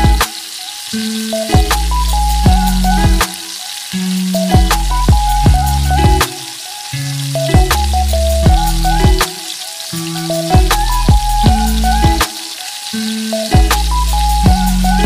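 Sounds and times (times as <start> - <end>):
background music with beat: 0.0 - 15.0
onions sizzling in hot oil: 0.0 - 15.0.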